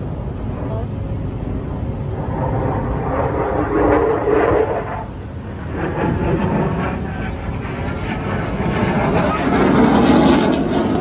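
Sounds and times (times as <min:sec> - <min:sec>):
helicopter rotors and engines: 0:00.0 - 0:11.0.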